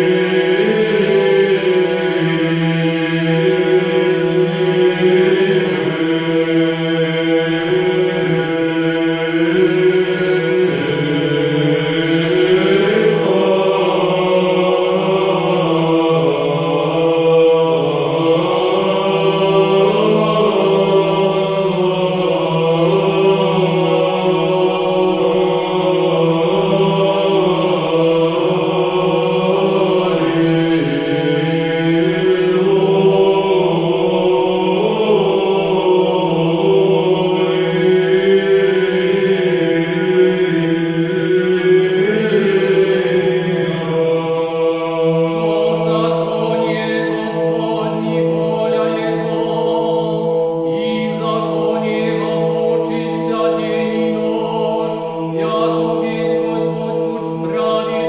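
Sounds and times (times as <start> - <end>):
choir chanting: 0.0 - 58.0.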